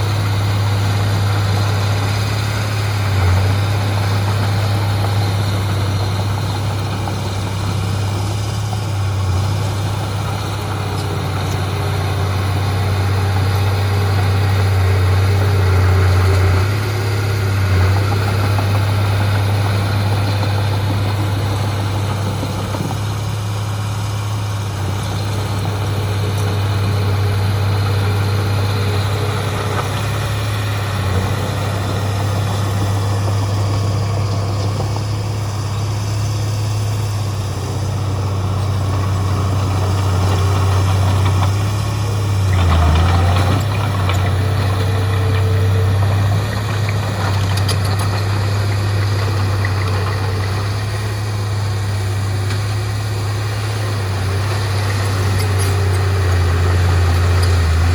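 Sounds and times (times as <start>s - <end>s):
diesel machine engine running: 0.0s - 57.9s.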